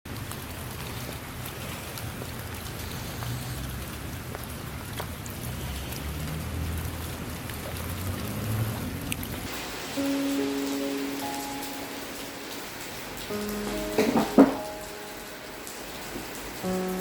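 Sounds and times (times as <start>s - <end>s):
steady rain falling: 0.1s - 17.0s.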